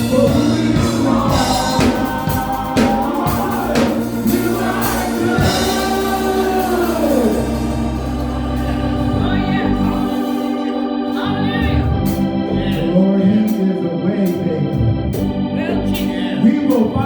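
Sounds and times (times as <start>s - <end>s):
bass: 0.0s - 17.0s
organ chords: 0.0s - 17.0s
person singing wordless melody: 0.0s - 17.0s.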